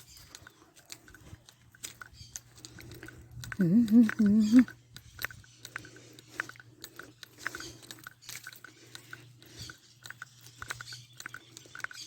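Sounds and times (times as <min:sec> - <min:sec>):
bird chirps and clicks: 0:00.0 - 0:12.0.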